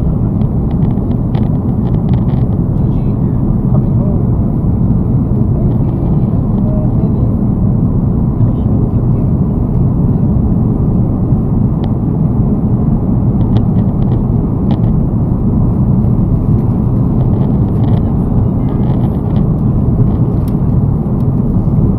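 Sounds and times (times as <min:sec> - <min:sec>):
airliner cabin engine noise: 0:00.0 - 0:21.9.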